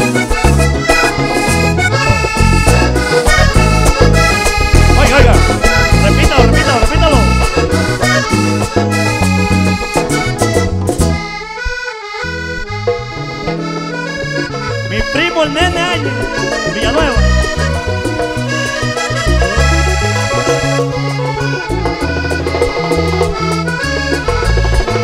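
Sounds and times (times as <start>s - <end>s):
hand drums: 0.0s - 11.8s, 12.8s - 25.0s
bass guitar: 0.0s - 25.0s
button accordion: 0.0s - 25.0s.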